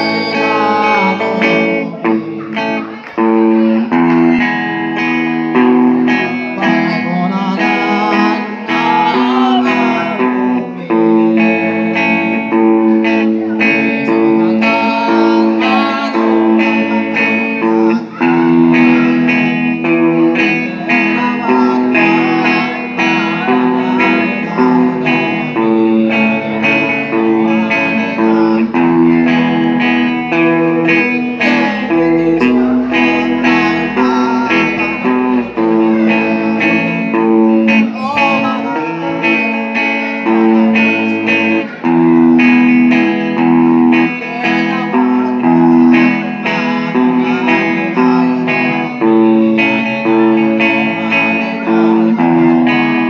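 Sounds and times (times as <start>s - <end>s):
man singing into a microphone: 0.0s - 3.0s, 5.6s - 53.0s
electric guitar strumming chords: 0.0s - 53.0s.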